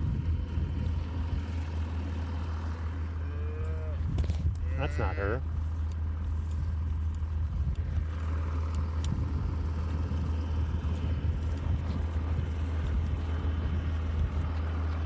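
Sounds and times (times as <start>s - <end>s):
diesel tractor engine droning: 0.0s - 15.0s.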